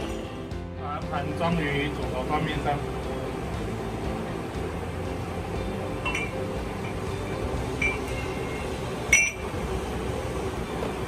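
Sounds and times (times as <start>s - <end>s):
machine room hum: 0.0s - 11.0s.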